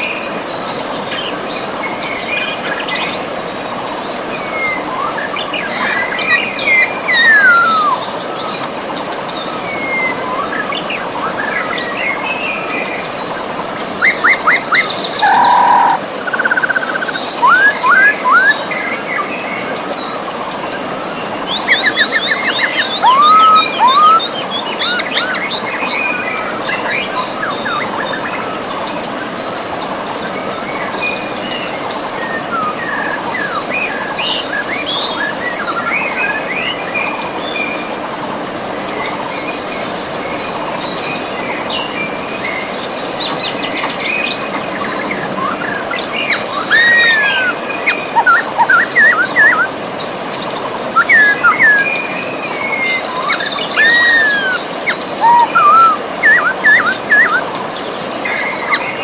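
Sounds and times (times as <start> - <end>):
river flowing: 0.0 - 59.0
birds singing and chirping: 0.3 - 37.8, 38.8 - 59.0.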